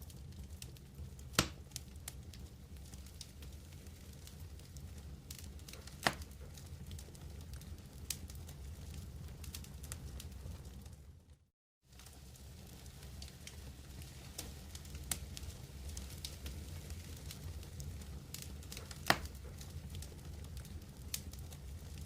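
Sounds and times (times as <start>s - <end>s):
campfire crackling: 0.0s - 11.3s, 11.9s - 22.0s
sharp fire pops: 0.5s - 10.8s, 12.0s - 22.0s.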